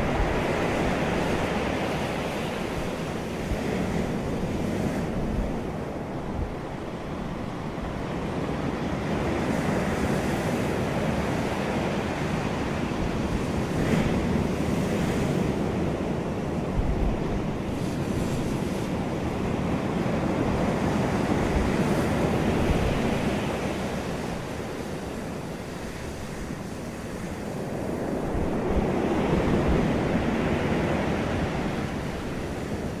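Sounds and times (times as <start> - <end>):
sea waves washing onto beach: 0.0 - 33.0
wind rumbling on microphone: 0.0 - 33.0.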